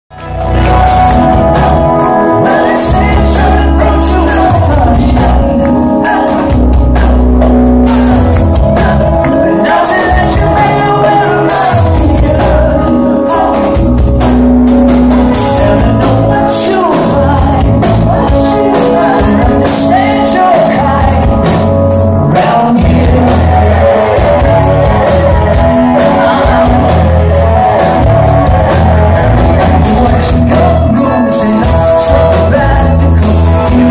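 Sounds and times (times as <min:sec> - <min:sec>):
drums: 0:00.1 - 0:33.9
live rock band playing: 0:00.1 - 0:33.9
man singing: 0:00.1 - 0:33.9.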